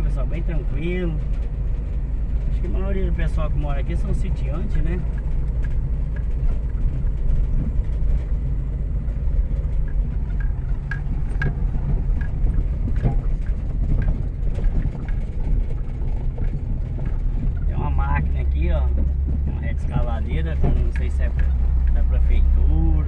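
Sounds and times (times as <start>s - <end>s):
car engine and tyres rumbling: 0.0s - 23.0s
small knocks and rattles: 0.1s - 23.0s.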